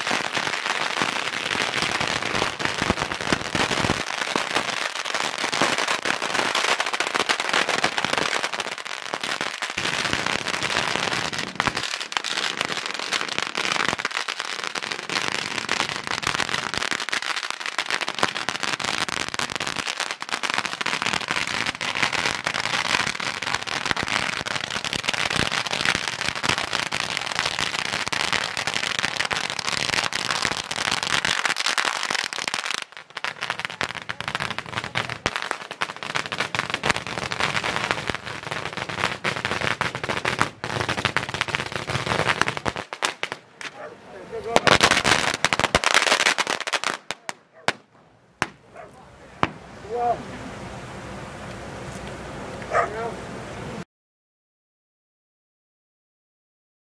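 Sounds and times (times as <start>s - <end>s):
firecrackers crackling: 0.0s - 50.4s.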